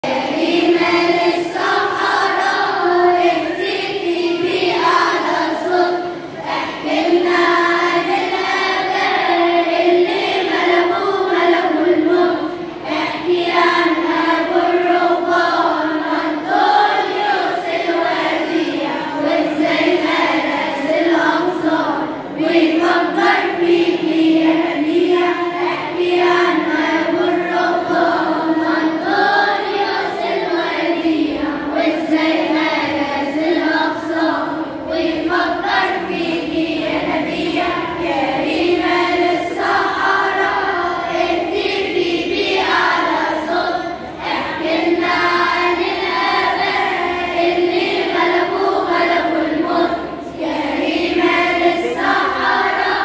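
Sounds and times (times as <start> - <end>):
children's choir singing a hymn: 0.0 - 53.0.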